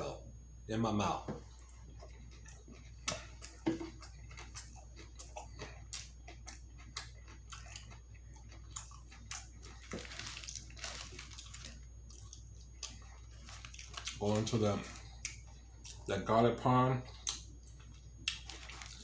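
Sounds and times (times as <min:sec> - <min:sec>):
steady low hum: 0:00.0 - 0:19.0
wet chewing smacks: 0:01.4 - 0:16.1, 0:17.0 - 0:19.0.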